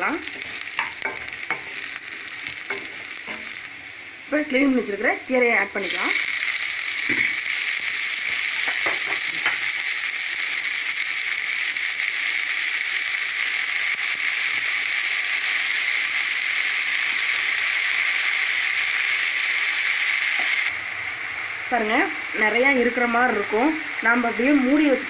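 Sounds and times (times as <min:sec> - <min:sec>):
spinach sizzling in hot oil: 0:00.0 - 0:25.0.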